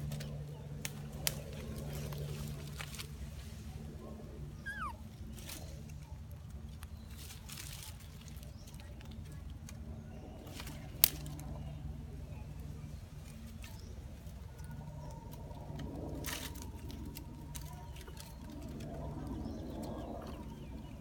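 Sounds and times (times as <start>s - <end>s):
rustling in dry leaves: 0.0s - 21.0s
steady low hum: 0.0s - 21.0s.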